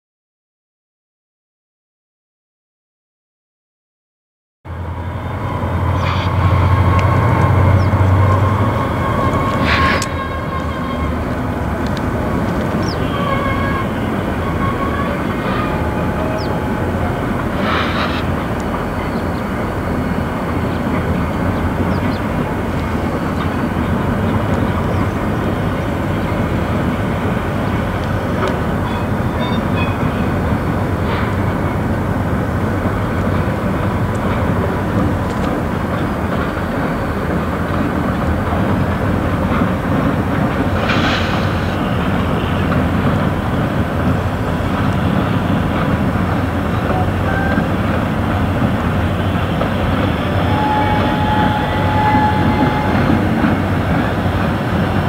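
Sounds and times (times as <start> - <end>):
freight train rumbling on rails: 4.7 - 55.0.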